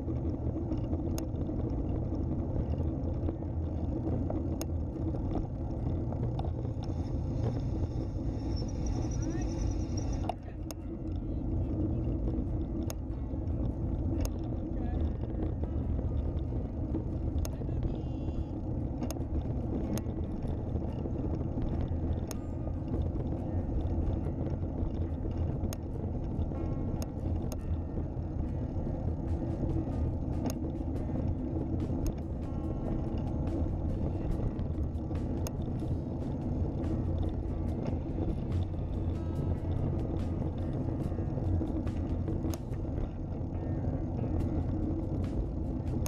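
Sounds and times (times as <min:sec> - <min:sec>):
light clicks and rattles: 0:00.0 - 0:46.0
tyres rolling on rough asphalt: 0:00.0 - 0:46.0.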